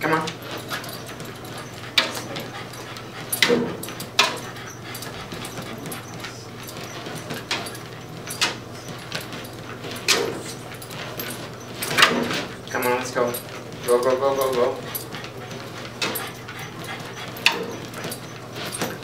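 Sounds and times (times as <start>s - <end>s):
steady low hum: 0.0s - 19.0s
dog whimpering: 0.4s - 19.0s.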